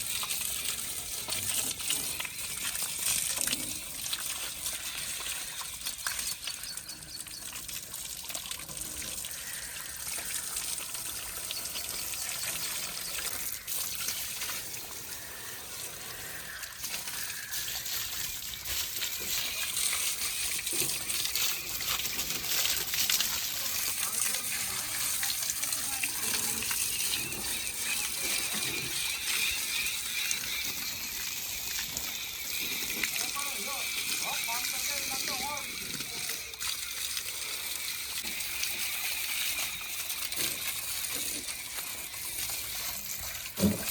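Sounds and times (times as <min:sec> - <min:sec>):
water running and splashing: 0:00.0 - 0:43.9.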